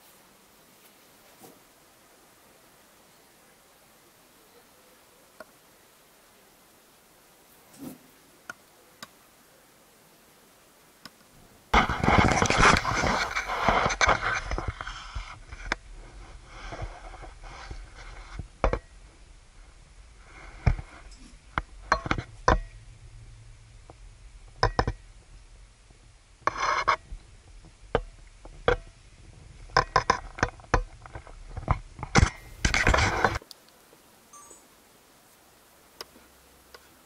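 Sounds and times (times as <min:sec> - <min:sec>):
faint low hum: 0:00.1 - 0:37.0.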